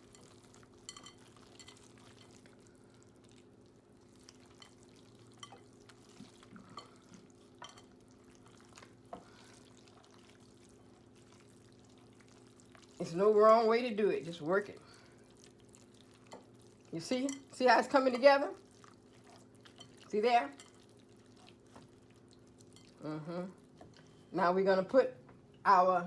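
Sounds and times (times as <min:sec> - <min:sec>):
hands squishing food in bowl: 0:00.0 - 0:23.0.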